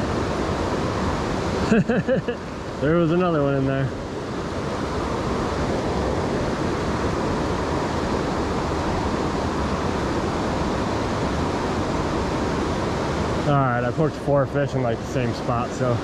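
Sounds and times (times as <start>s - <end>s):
river current rushing: 0.0s - 16.0s.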